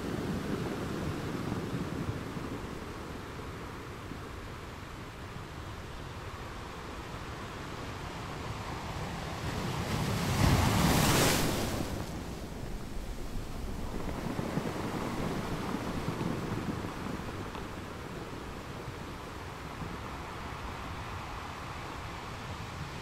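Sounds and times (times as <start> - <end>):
waves on open water: 0.0 - 23.0
wind on microphone: 0.0 - 23.0.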